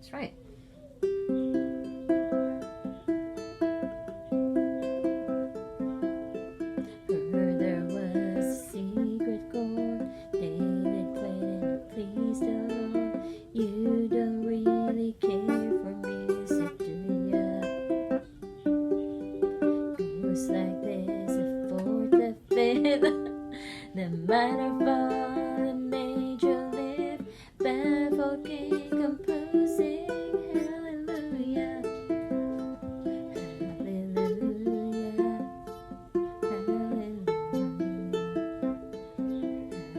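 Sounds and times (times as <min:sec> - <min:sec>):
ukulele picked melody: 0:00.5 - 0:39.9.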